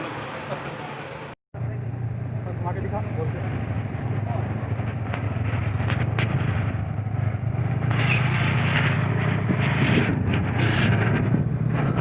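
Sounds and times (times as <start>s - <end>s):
street noise: 0.0s - 12.0s
vehicle engine humming: 0.0s - 12.0s.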